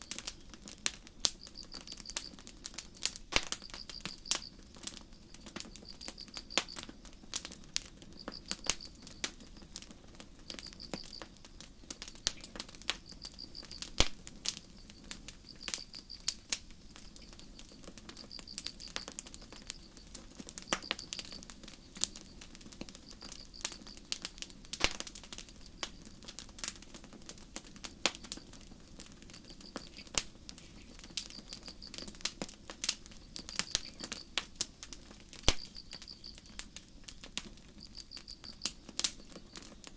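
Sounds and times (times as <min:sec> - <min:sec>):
crickets chirping: 0:00.0 - 0:26.9, 0:27.6 - 0:39.9
campfire crackling and popping: 0:00.0 - 0:39.9.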